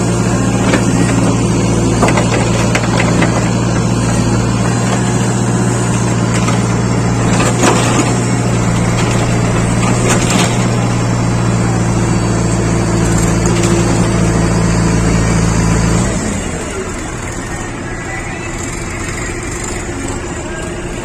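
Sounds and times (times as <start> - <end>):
machine engine humming: 0.0 - 21.0.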